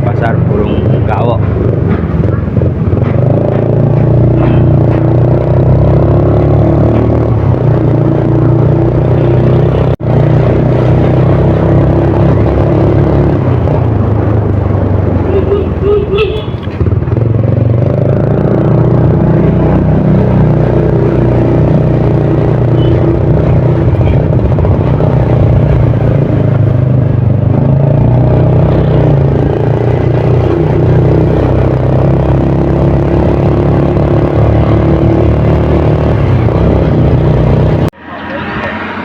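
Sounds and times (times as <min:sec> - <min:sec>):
vehicle engine running: 0:00.0 - 0:38.8
road and wind noise: 0:00.0 - 0:39.0.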